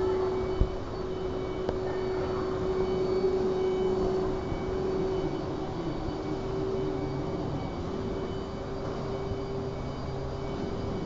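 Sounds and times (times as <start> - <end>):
laser cutter machine hum: 0.0 - 11.0.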